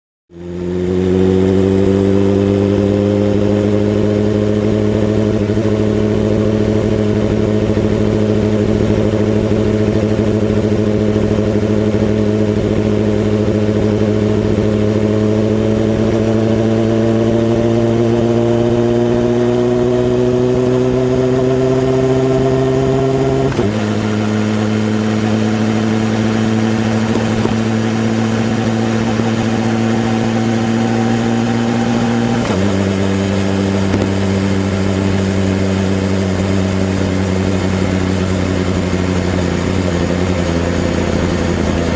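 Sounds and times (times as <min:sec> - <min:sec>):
motorcycle engine running: 0:00.3 - 0:41.9.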